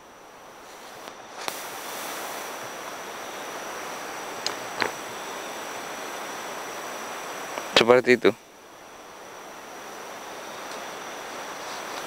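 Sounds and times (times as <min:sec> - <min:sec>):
faint high whine: 0:00.0 - 0:12.0
steady rushing noise: 0:00.0 - 0:12.0.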